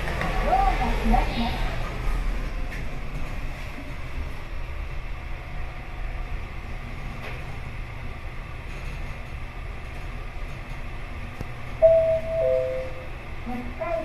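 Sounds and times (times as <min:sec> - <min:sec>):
elevator ride rumble: 0:00.0 - 0:14.0.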